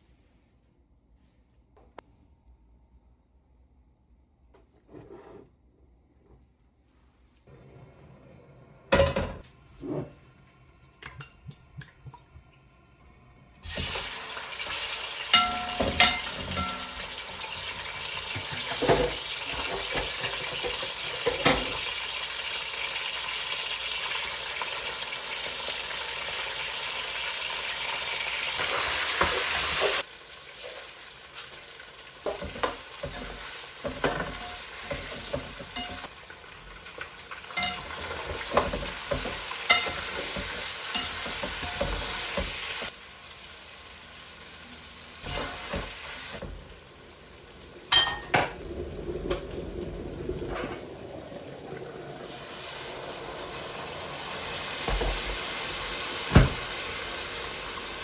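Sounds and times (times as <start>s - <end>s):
food sizzling in a pan: 7.5s - 58.0s.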